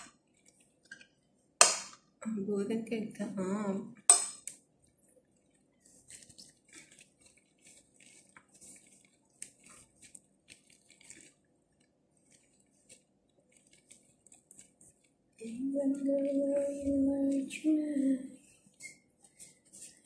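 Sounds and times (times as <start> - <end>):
gloved hands rustling and squishing: 0.1 - 2.0, 4.4 - 17.5, 18.4 - 20.0.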